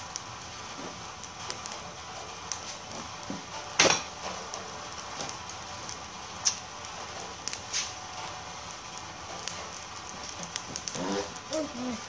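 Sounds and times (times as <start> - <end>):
charcoal fire crackling: 0.0 - 12.0
steady hiss: 0.0 - 12.0.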